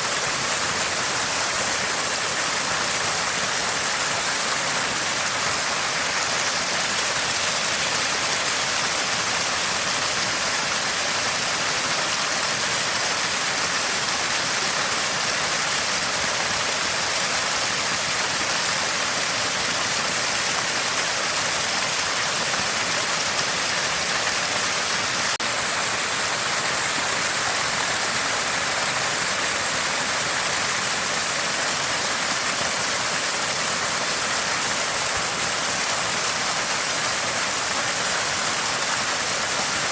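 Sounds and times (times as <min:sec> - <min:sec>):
spring water gurgling: 0:00.0 - 0:39.9.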